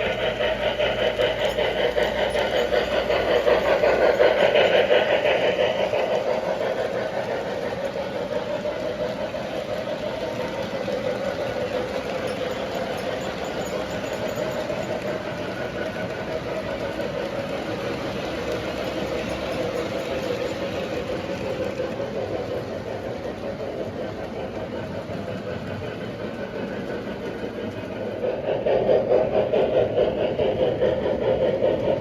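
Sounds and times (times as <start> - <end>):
model train wheels clattering: 0.0 - 32.0.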